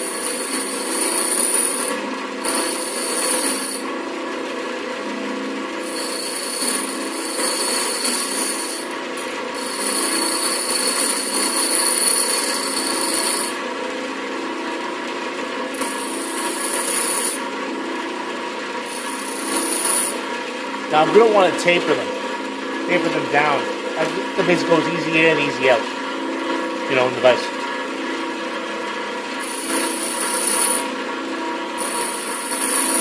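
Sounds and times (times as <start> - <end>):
wire wheel motor running: 0.0 - 14.0, 15.7 - 25.5, 28.7 - 33.0.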